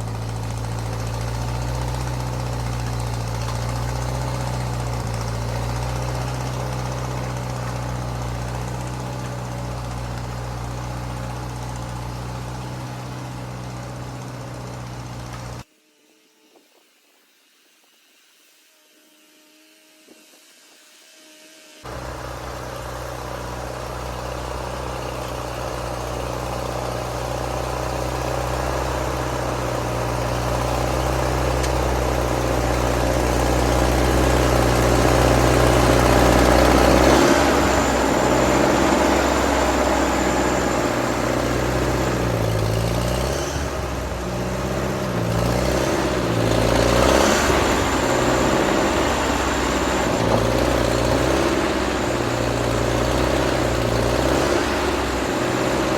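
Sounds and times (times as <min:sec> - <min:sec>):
tractor engine running: 0:00.0 - 0:15.6, 0:21.9 - 0:55.9.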